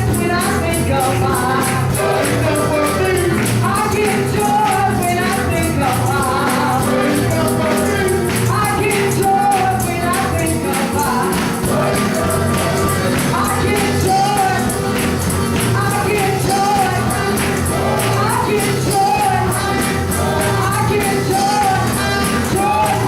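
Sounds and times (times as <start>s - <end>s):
sustained bass line: 0.0s - 23.0s
tambourine shaken: 0.0s - 23.0s
voices singing: 0.0s - 23.0s.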